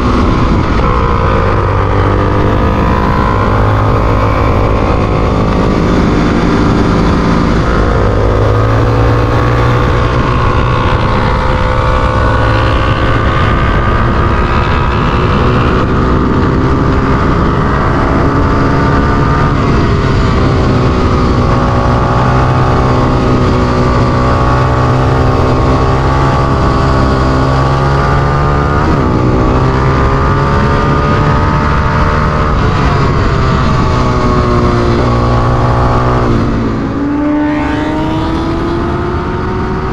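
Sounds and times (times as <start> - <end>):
motorcycle engine revving hard: 0.0 - 39.9
wind rush: 0.0 - 39.9.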